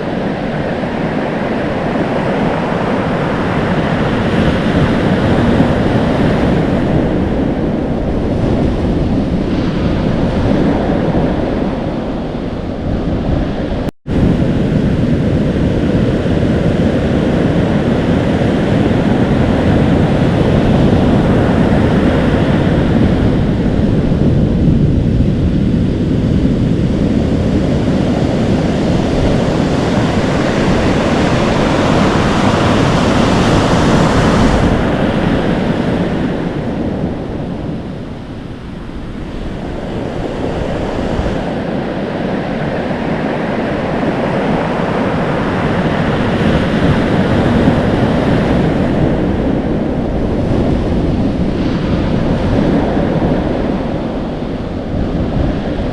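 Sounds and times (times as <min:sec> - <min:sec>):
ocean waves breaking: 0:00.0 - 0:55.9
wind buffeting microphone: 0:00.0 - 0:55.9.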